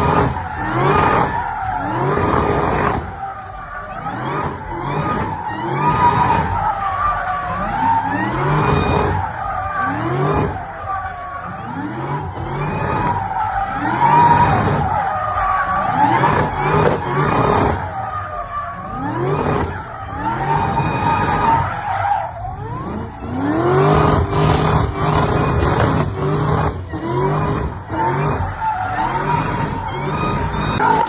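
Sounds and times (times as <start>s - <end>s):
car engine revving: 0.0s - 31.0s
tyres squealing: 0.0s - 31.0s.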